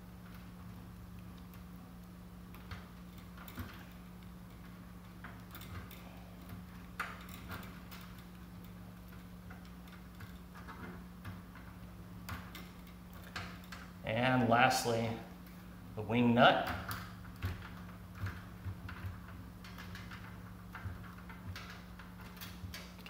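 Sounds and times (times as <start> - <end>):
steady low hum: 0.0 - 23.0
hand tool and wires clicking: 1.2 - 14.0, 16.5 - 23.0.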